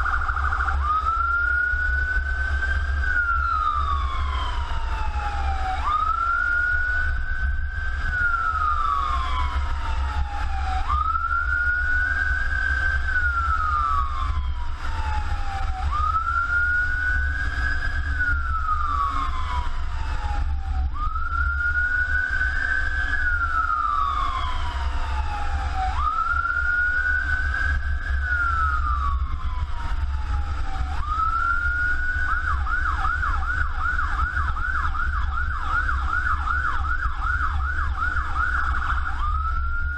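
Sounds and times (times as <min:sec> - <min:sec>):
emergency siren wailing and yelping: 0:00.0 - 0:39.9.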